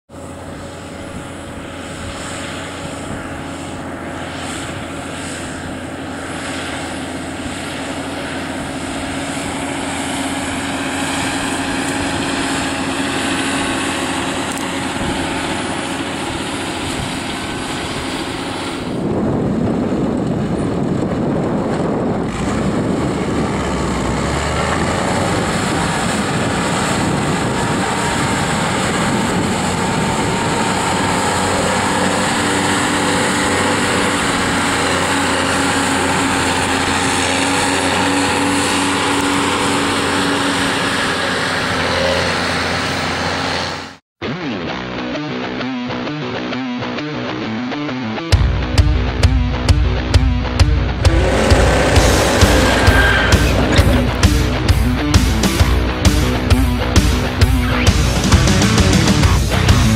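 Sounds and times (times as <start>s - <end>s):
tractor diesel engine under load: 0.0s - 44.0s, 50.7s - 59.9s
tractor towing slurry tanker: 0.1s - 44.0s, 50.9s - 59.9s.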